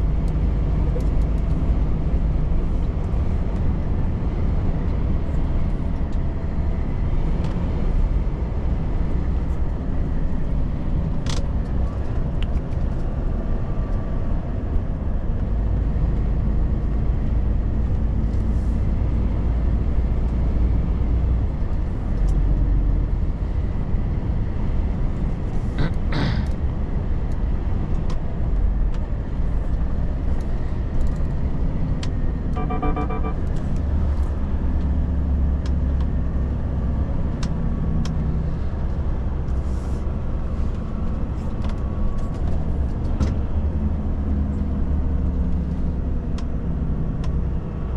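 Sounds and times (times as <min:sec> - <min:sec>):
truck diesel engine drone: 0:00.0 - 0:47.9.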